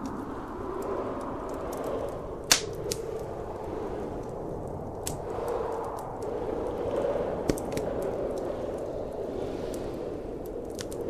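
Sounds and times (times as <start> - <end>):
blizzard wind rushing: 0.0 - 11.0
wood fire crackling and popping: 0.0 - 11.0.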